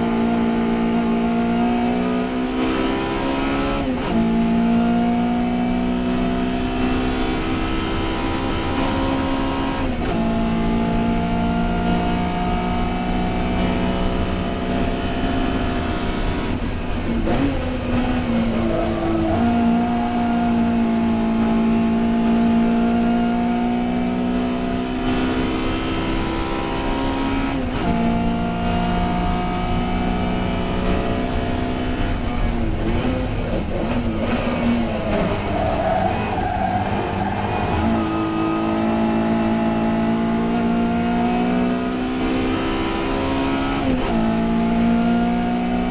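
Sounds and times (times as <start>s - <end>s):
race car engine at high revs: 0.0s - 45.9s.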